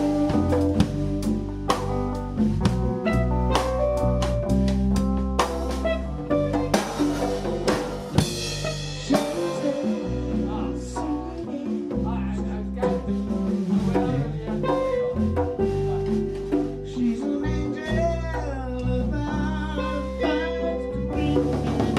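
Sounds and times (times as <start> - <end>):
jazz background music: 0.0 - 21.9.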